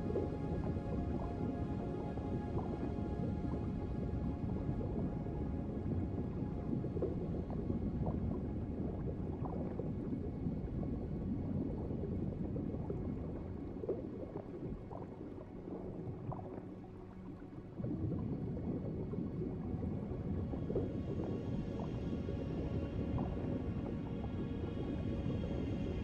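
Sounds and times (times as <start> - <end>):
underwater gurgling and bubbling: 0.0 - 26.0.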